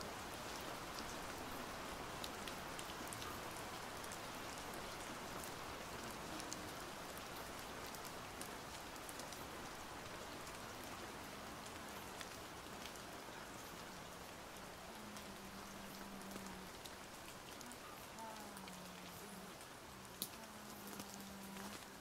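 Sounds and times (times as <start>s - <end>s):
light rain hiss and drops: 0.0s - 22.0s.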